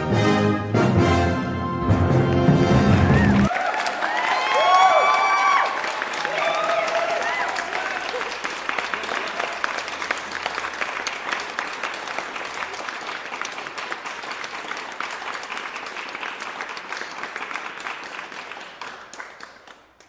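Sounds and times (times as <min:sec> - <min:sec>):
audience applauding: 0:02.3 - 0:20.0.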